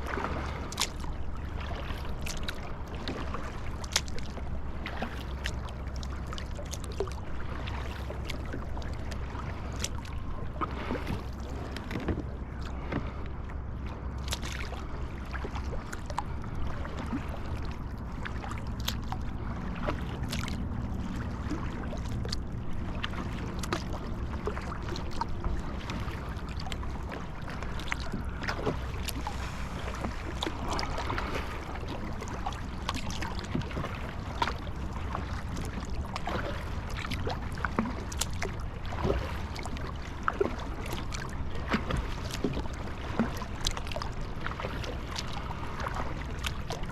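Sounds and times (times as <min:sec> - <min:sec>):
paddle splashing: 0:00.0 - 0:46.9
steady low rumble: 0:00.0 - 0:46.9
water lapping at hull: 0:00.0 - 0:46.9.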